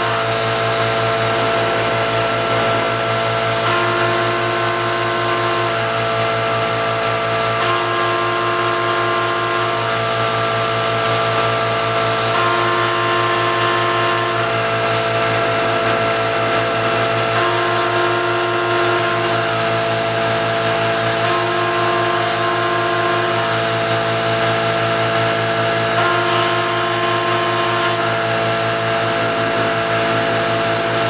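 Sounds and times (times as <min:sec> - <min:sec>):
milling machine whining: 0:00.0 - 0:31.0.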